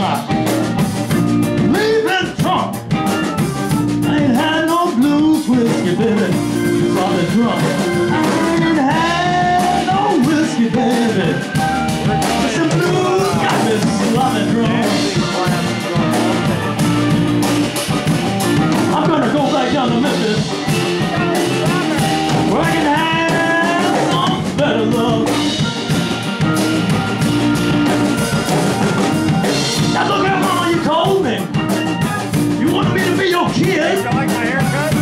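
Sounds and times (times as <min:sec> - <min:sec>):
blues band playing: 0:00.0 - 0:35.0.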